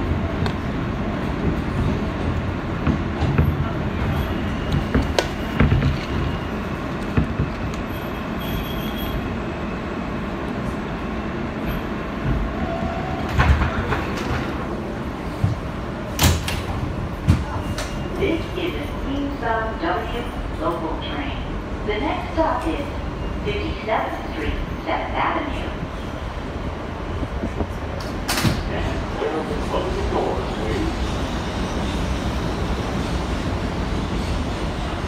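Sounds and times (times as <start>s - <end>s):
subway car running noise: 0.0s - 35.0s.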